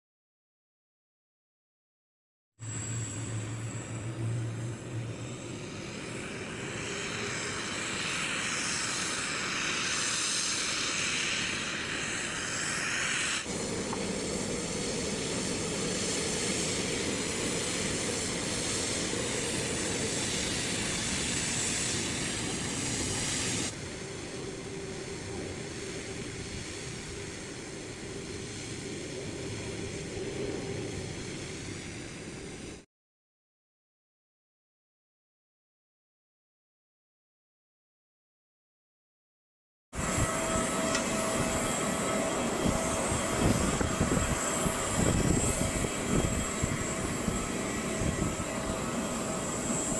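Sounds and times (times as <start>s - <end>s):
jet engines taxiing: 2.6s - 32.8s, 40.0s - 49.9s.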